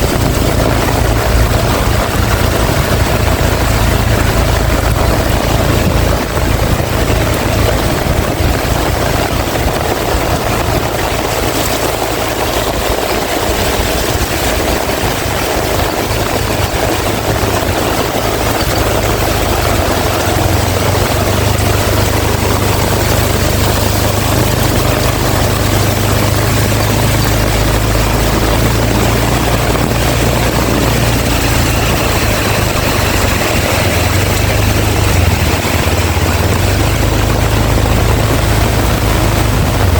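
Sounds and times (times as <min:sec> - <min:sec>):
heavy rain hissing: 0:00.0 - 0:39.9
wind buffeting microphone: 0:00.0 - 0:39.9.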